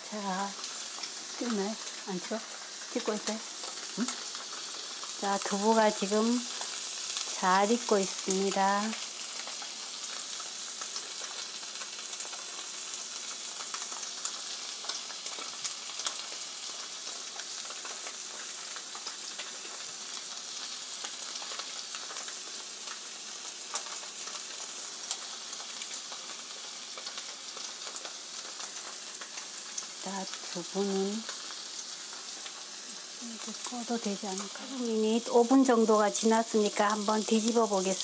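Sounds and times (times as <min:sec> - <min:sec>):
tofu sizzling in oil: 0:00.0 - 0:38.0.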